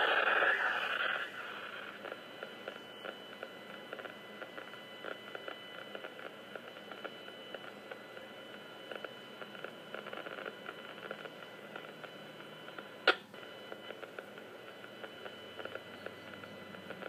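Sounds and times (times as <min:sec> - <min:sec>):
crackling radio static: 0:00.0 - 0:17.0
high-pitched whine: 0:00.0 - 0:17.0.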